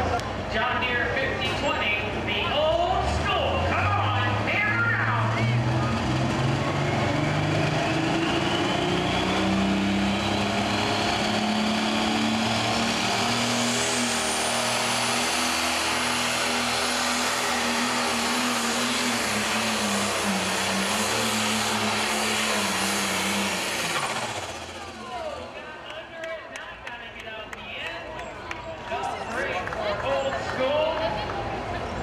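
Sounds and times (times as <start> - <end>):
diesel engine at full throttle: 0.0 - 26.4.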